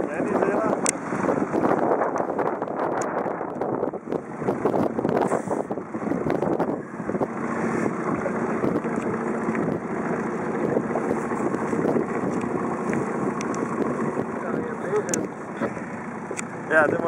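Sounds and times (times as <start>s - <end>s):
water splashing against boat: 0.0s - 17.0s
wind on microphone: 0.0s - 17.0s.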